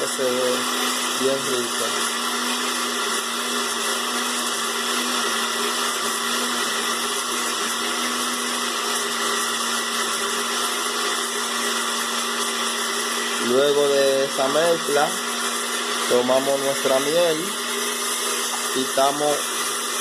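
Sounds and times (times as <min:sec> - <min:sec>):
blender running: 0:00.0 - 0:20.0.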